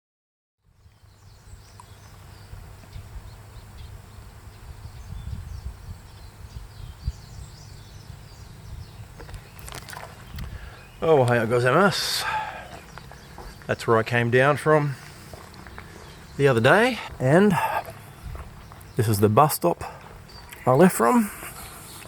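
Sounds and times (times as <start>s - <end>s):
small birds chirping: 0.6s - 22.0s.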